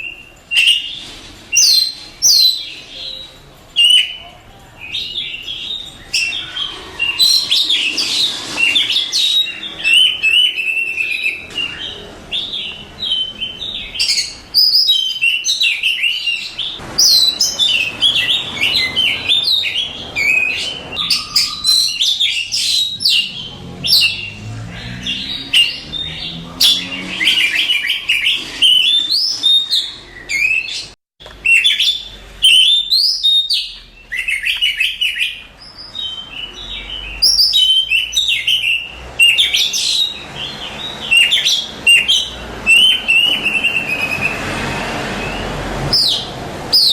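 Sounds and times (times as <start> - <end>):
bird singing whistled notes: 0.0 - 44.4.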